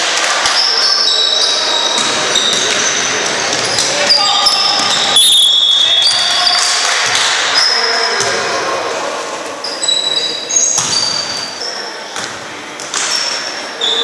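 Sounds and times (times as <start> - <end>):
shoes squeaking on hardwood: 0.7 - 8.6, 9.6 - 14.0.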